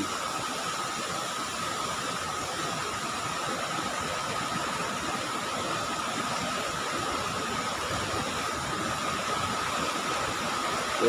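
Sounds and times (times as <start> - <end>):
flooded river rushing: 0.0 - 11.0.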